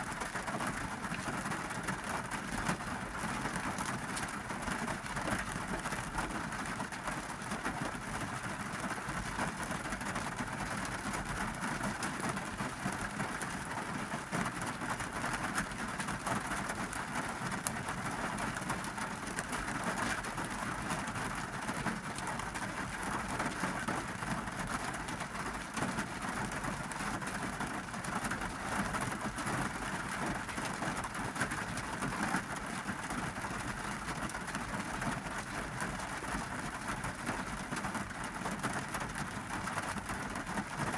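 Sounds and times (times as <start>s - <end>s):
heavy rain on car roof: 0.0s - 40.9s.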